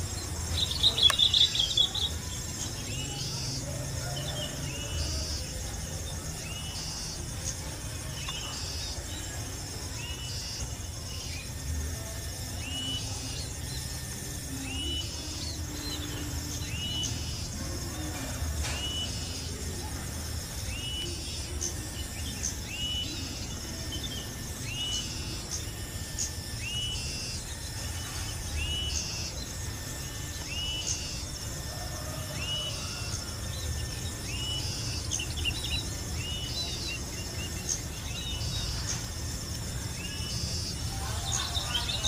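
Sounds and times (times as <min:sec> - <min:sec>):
higher bird chirps: 0:00.0 - 0:39.1.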